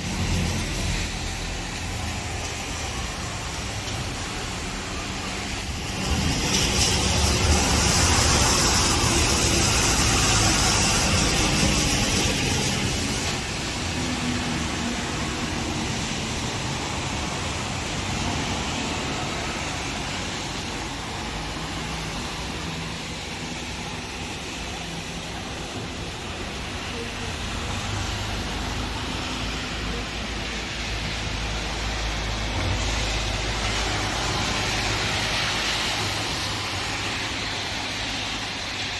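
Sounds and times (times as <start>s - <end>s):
low rumble of traffic: 0.0s - 38.9s
steady rain: 0.0s - 38.9s
wind: 0.0s - 38.9s.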